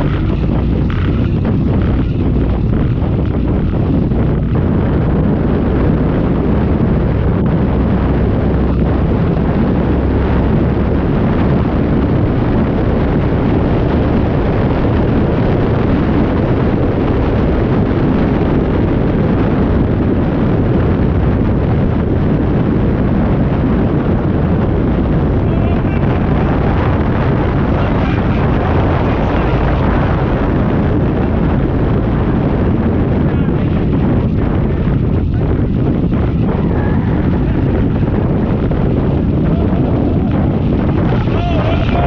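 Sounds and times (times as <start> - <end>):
powerboat engines rumbling: 0.0 - 42.0
wind buffeting microphone: 0.0 - 42.0.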